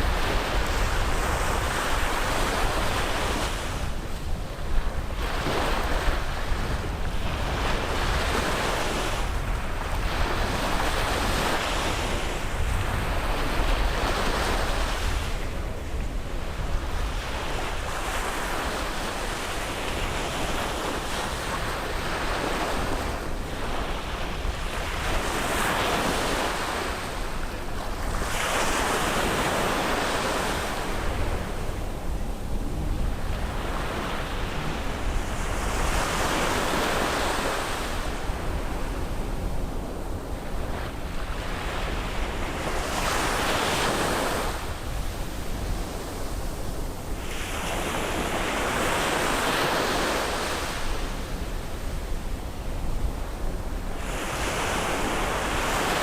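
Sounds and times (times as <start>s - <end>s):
waves breaking on a beach: 0.0s - 56.0s
wind rumble on microphone: 0.0s - 56.0s.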